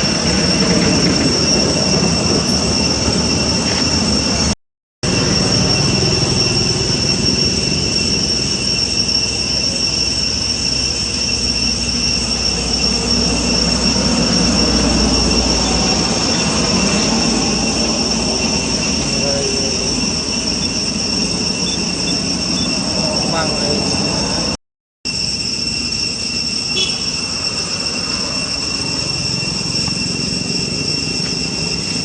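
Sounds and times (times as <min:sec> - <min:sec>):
high-pitched drone: 0:00.0 - 0:32.0.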